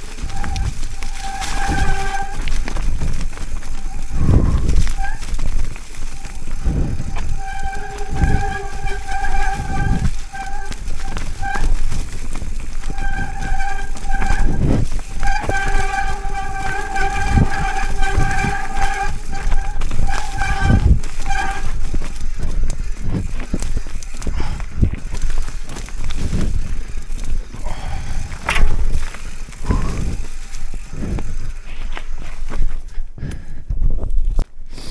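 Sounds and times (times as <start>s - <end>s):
bike disc brakes squealing: 0.0s - 31.9s
knocks from rough trail: 0.0s - 33.0s
wind rumble: 0.0s - 34.4s.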